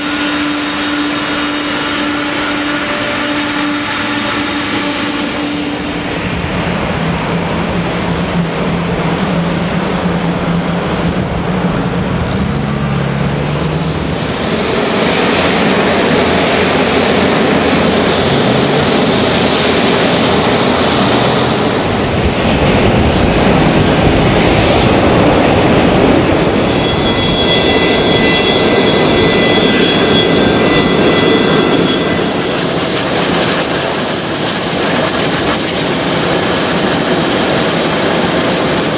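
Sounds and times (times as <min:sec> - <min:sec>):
high whines: 0:00.0 - 0:38.9
jet engines running: 0:00.0 - 0:38.9
low hum: 0:00.0 - 0:38.9.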